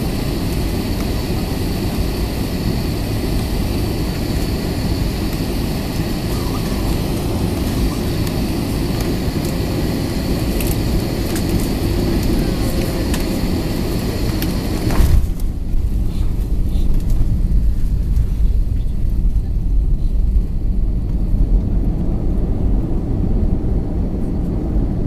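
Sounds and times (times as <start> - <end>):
airplane cabin engine roar: 0.0 - 25.0
high steady whine: 0.0 - 25.0.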